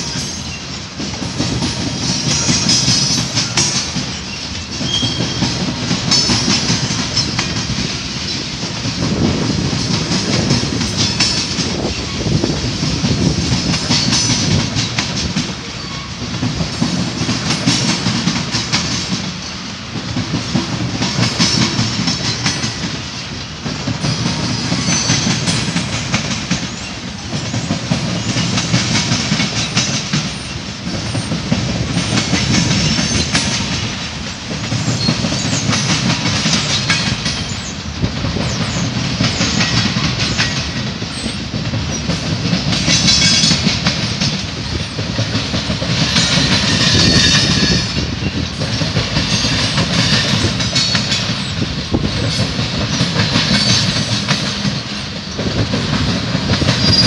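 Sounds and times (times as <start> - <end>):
train wheels rumbling on rail: 0.0 - 57.0
wheels clicking over rail joints: 0.0 - 57.0.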